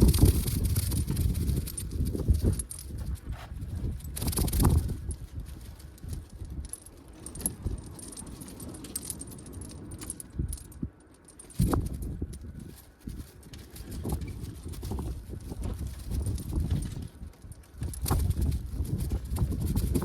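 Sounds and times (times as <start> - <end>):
wind gusting on microphone: 0.0 - 20.0.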